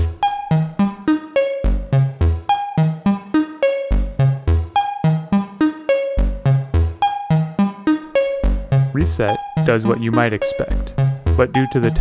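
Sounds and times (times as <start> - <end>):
low synth bass notes: 0.0 - 12.0.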